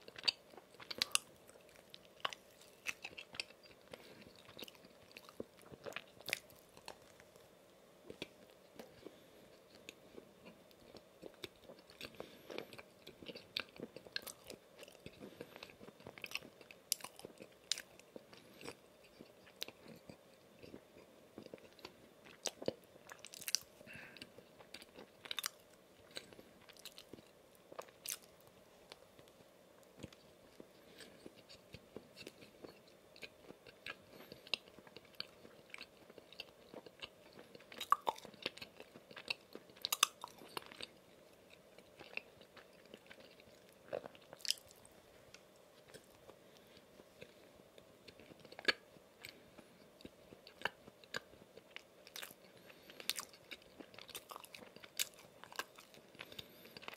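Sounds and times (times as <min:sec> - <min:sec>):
person chewing moistly: 0:00.0 - 0:56.9.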